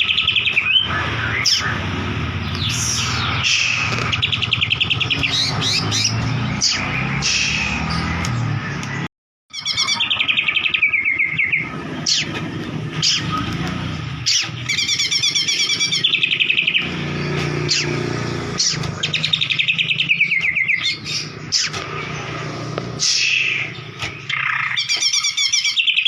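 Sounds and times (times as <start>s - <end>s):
bird singing rapid trills: 0.0s - 8.8s, 9.5s - 26.0s.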